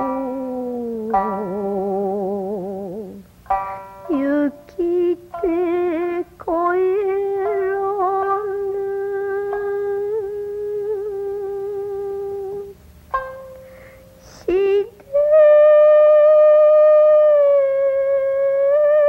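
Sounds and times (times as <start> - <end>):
person singing with vibrato: 0.0 - 3.4, 4.0 - 19.0.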